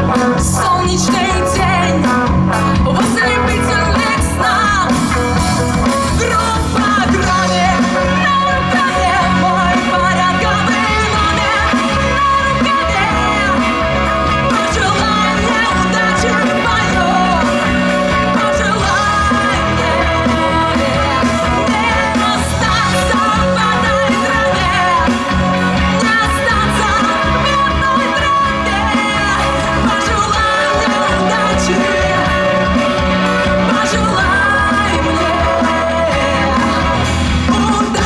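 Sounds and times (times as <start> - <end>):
rock band playing live: 0.0 - 38.0.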